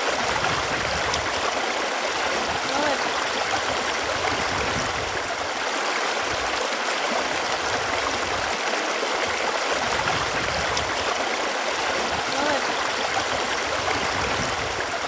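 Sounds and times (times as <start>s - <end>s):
running water gurgling: 0.0s - 15.0s.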